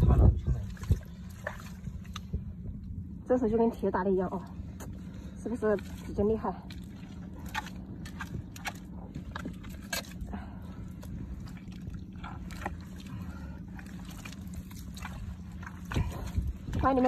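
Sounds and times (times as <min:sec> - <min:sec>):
wet mud squelching: 0:00.0 - 0:02.5, 0:04.6 - 0:17.0
steady low rumble: 0:00.0 - 0:17.0.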